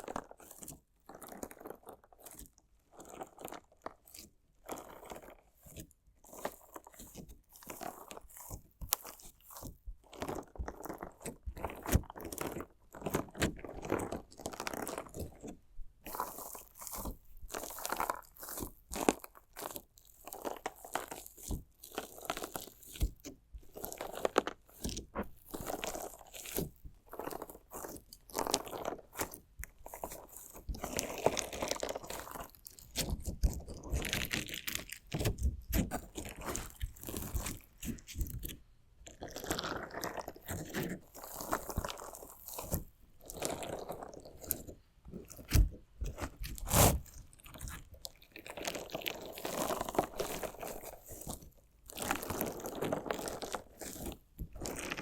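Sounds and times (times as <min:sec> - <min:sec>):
crunchy slime crunching and clicking: 0:00.0 - 0:55.0.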